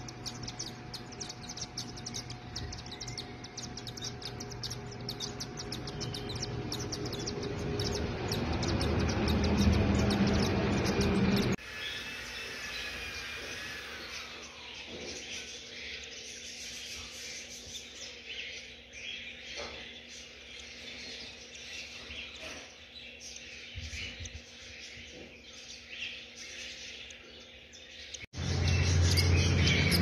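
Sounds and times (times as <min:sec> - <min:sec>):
chicks chirping: 0:00.0 - 0:30.0.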